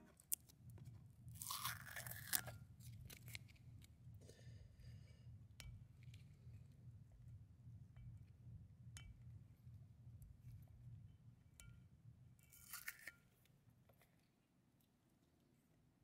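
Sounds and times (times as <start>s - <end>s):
low steady hum: 0.0s - 14.3s.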